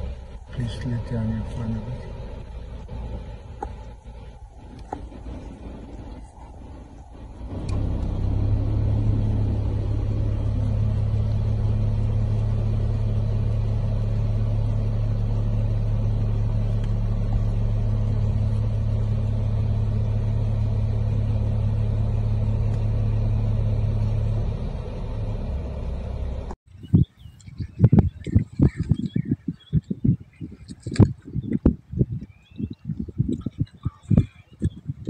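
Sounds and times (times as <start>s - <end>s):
car engine humming: 0.0s - 34.8s.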